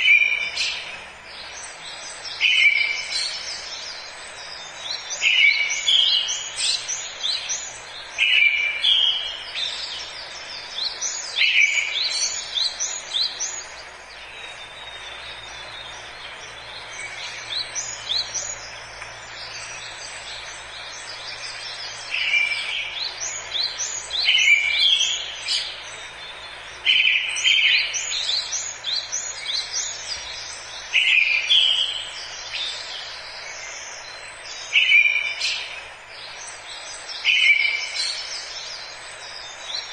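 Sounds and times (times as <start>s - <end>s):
birds singing: 0.0s - 39.9s
faint steady hiss: 0.0s - 39.9s.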